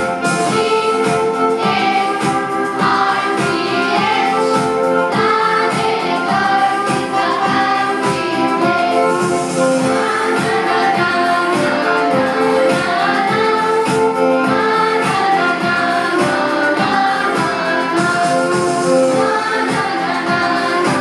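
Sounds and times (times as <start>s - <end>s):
group of voices singing: 0.0s - 21.0s
instrumental accompaniment with beat: 0.0s - 21.0s.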